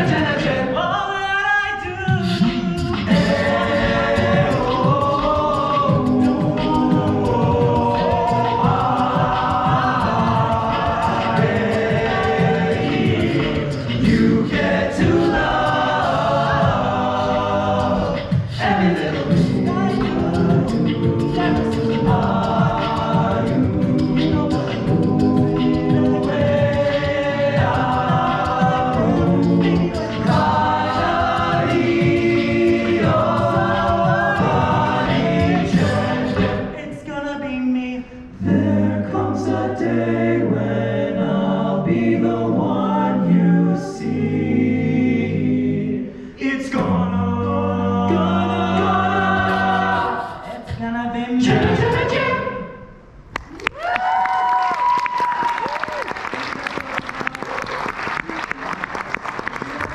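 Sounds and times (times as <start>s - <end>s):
a cappella group singing: 0.0s - 53.0s.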